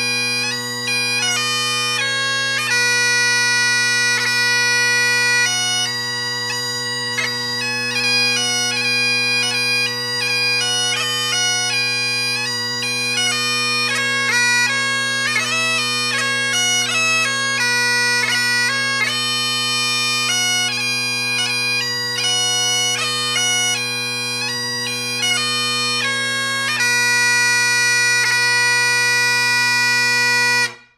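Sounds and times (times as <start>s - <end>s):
bagpipe march: 0.0s - 30.9s.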